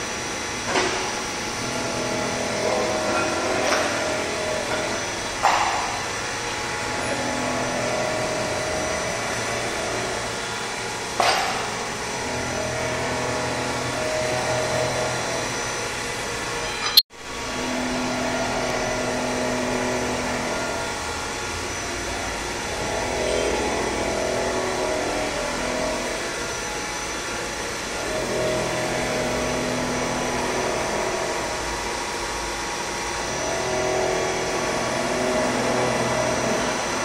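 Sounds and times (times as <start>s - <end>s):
milling machine humming: 0.0s - 37.0s.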